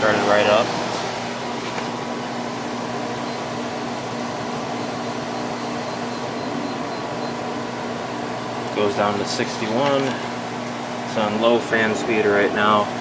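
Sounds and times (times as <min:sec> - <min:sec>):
air conditioner whooshing hum: 0:00.0 - 0:13.0.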